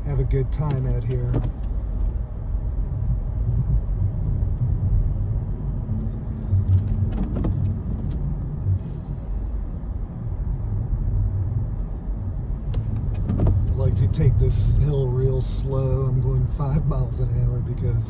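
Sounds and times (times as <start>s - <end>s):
car engine rumble: 0.0s - 18.0s
tyres on snowy road: 0.0s - 18.0s.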